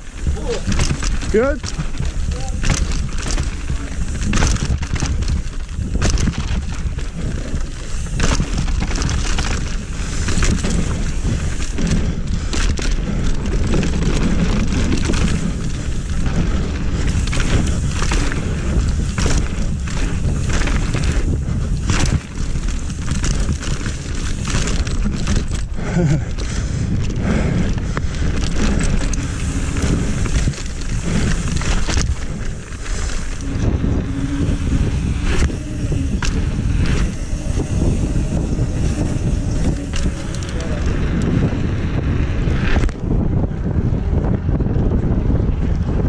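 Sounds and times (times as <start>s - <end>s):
bike knocks and rattles: 0.0s - 46.0s
tyre noise on dirt: 0.0s - 46.0s
wind rumble on microphone: 0.0s - 46.0s.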